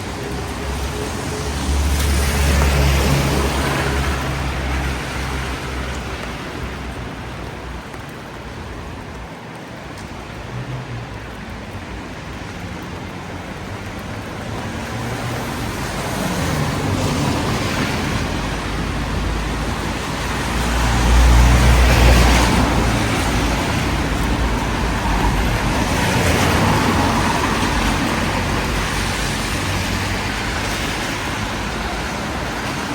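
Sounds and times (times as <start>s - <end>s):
cars passing: 0.0s - 32.9s
tyres hissing on wet road: 0.0s - 32.9s.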